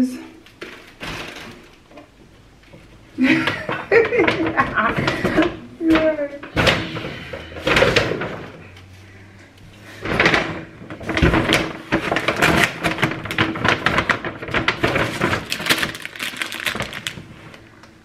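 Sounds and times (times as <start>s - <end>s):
bags and packaging rustling: 0.5s - 18.0s.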